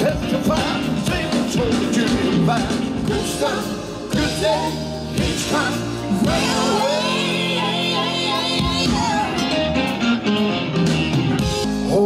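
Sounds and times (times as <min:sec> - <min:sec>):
man singing lead vocals: 0:00.0 - 0:10.0, 0:11.7 - 0:12.0.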